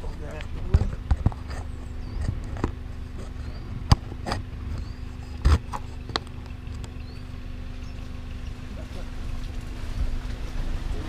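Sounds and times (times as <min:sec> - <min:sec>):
car engine low hum: 0:00.0 - 0:11.0
vehicle knocks and rattles over bumps: 0:00.0 - 0:11.0.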